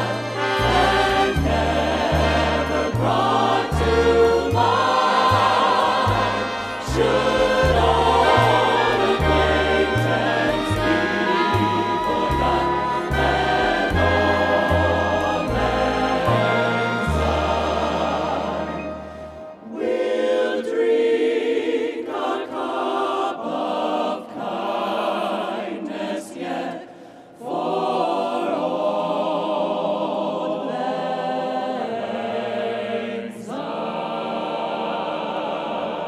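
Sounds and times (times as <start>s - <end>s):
mixed choir singing: 0.0s - 36.0s.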